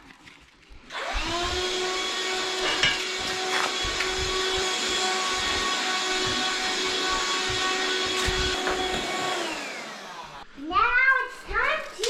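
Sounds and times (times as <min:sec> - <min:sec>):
handheld vacuum running: 0:00.6 - 0:10.6.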